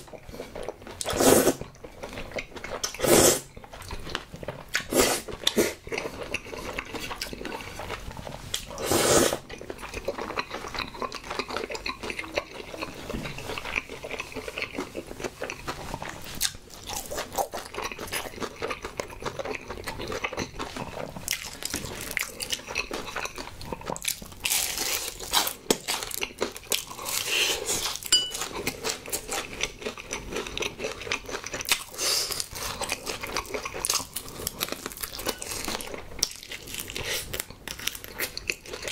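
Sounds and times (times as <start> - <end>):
chewing pasta: 0.0 - 38.9.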